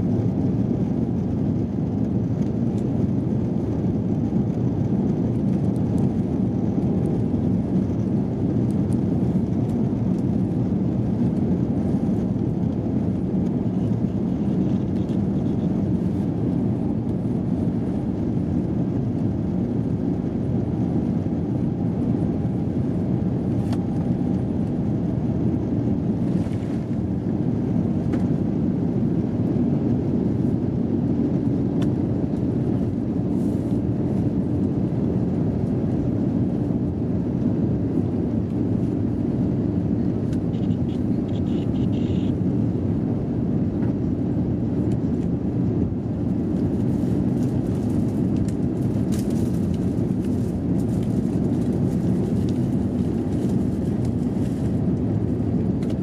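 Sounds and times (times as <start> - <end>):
jet engines at takeoff thrust: 0.0 - 56.0
wheels rumbling on wet runway: 0.0 - 56.0.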